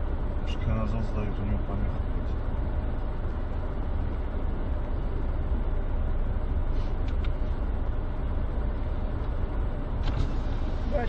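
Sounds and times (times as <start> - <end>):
car idling rumble with hiss: 0.0 - 11.0.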